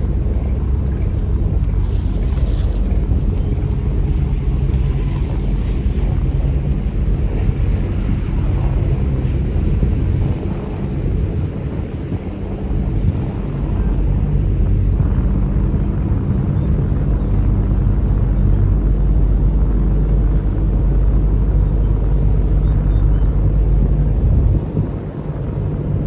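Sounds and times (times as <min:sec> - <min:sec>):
boat engine droning: 0:00.0 - 0:26.0
wind buffeting microphone: 0:00.0 - 0:26.0.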